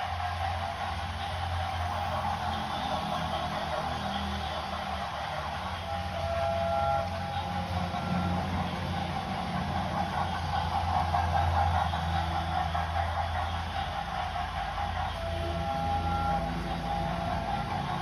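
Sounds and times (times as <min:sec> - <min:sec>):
train hiss: 0:00.0 - 0:18.0
train rumbling: 0:00.0 - 0:18.0.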